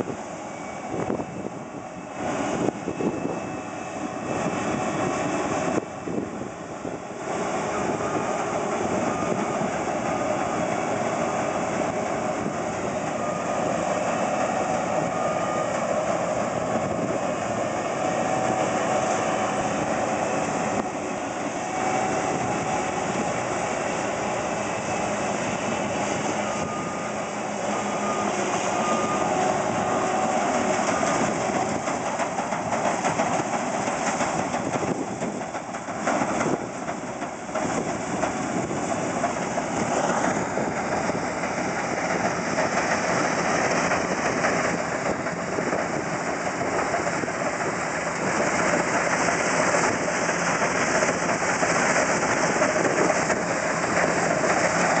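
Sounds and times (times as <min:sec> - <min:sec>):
combine harvester machinery din: 0:00.0 - 0:55.0.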